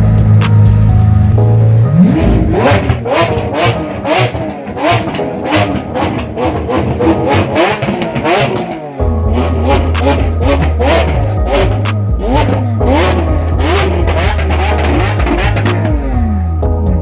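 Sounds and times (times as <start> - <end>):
car engine revving: 0.0 - 17.0
song with steady beat: 0.0 - 17.0.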